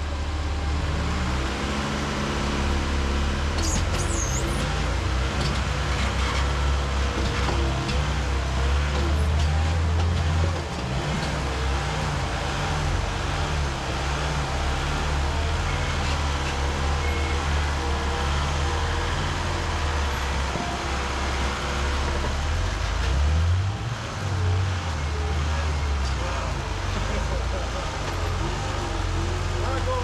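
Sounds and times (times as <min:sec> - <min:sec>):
engine revving: 0:00.0 - 0:30.0.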